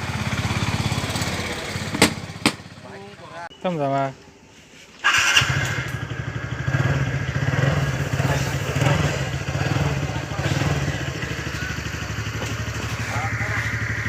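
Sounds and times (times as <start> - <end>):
scooter engine idling: 0.0 - 3.4, 5.1 - 14.0.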